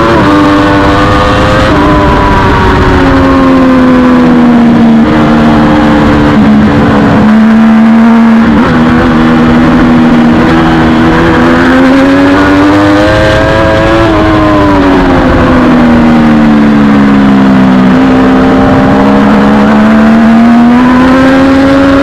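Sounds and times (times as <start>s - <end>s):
race motorcycle engine revving: 0.0s - 22.0s.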